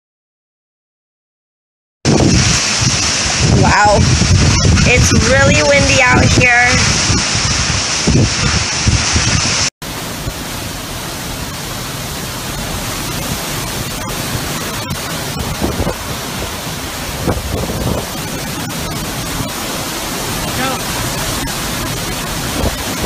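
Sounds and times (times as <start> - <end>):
strong wind and driving rain: 2.0 - 23.0.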